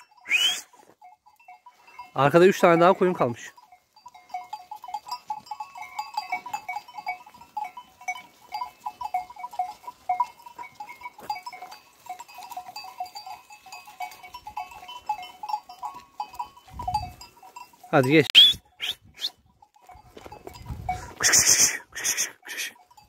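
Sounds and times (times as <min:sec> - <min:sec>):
sheep bells clinking: 0:00.0 - 0:23.0.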